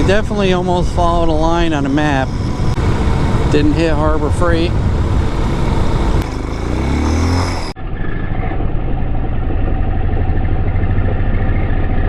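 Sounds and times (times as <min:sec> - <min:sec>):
dirt bike engine accelerating: 0:00.0 - 0:12.0.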